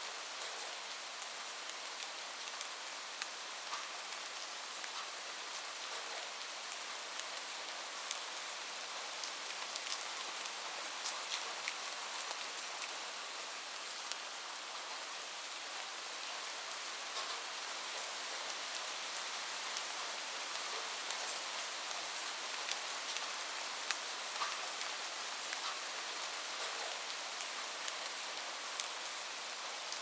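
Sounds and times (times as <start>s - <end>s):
rain falling on a roof: 0.0s - 30.0s.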